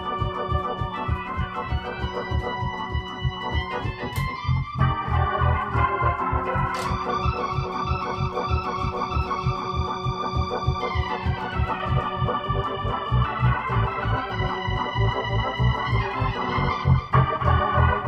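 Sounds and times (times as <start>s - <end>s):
organ chords and bass line: 0.0s - 18.0s.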